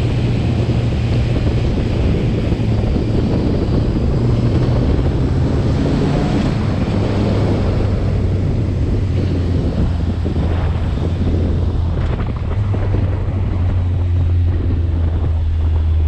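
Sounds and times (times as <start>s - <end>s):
vehicle engine droning: 0.0s - 16.0s
wind noise on microphone: 0.0s - 16.0s.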